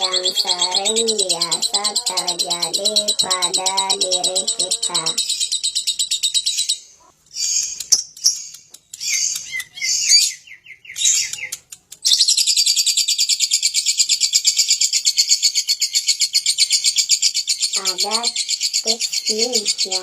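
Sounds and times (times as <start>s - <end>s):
bird chirping and trilling: 0.0s - 20.0s.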